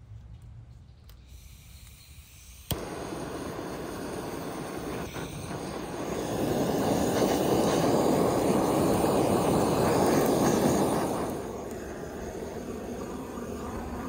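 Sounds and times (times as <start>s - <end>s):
blowtorch flame hissing: 1.1s - 14.0s.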